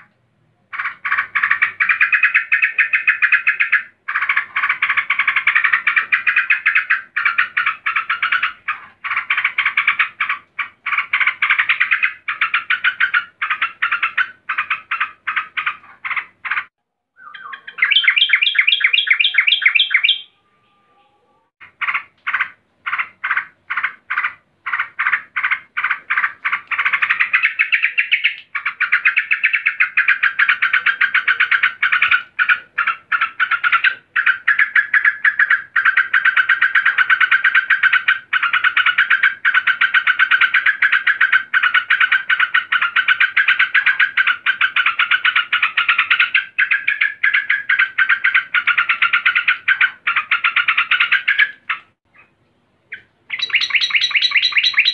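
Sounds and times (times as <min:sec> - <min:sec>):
bird calling rapid chatter: 0:00.7 - 0:20.4, 0:21.6 - 0:54.9.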